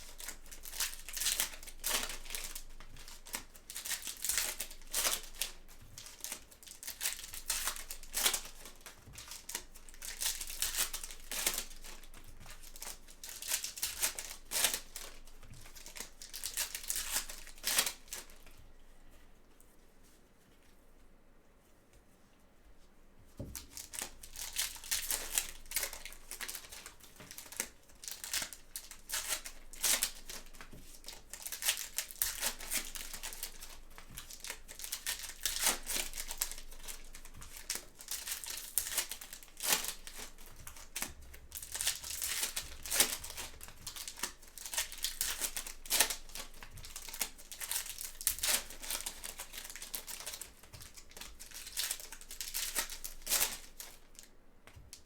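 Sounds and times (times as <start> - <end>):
plastic wrapping crinkling and tearing: 0.0 - 18.6, 23.5 - 55.0.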